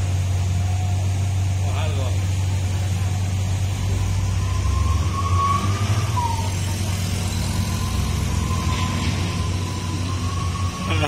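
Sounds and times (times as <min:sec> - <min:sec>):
truck diesel engine rumbling: 0:00.0 - 0:11.0
faint high whine: 0:00.2 - 0:11.0.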